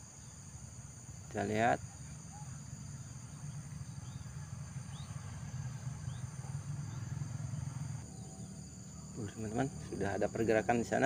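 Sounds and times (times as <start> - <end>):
high-pitched insect chorus: 0.0 - 11.0
low steady rumble: 0.6 - 11.0.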